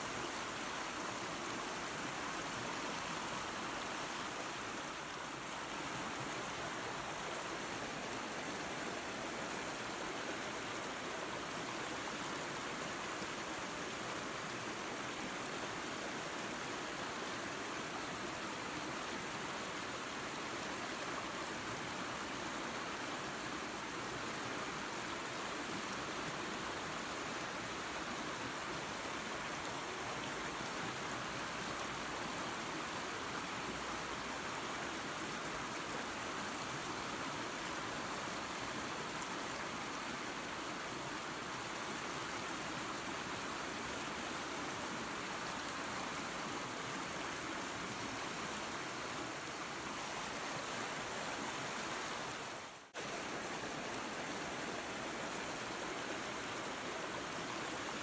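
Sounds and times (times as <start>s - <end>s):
waterfall and creek rushing: 0.0s - 58.0s.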